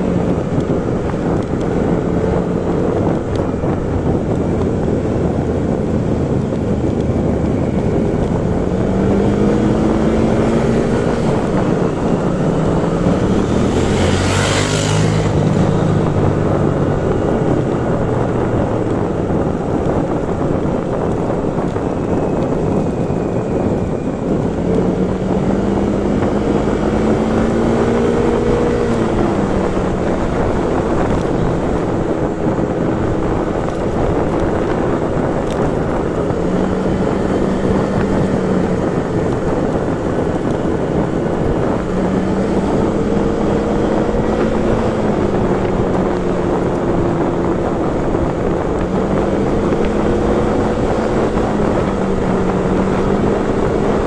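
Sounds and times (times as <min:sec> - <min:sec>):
motorcycle engine revving: 0:00.0 - 0:54.0
wind on microphone: 0:00.0 - 0:54.0.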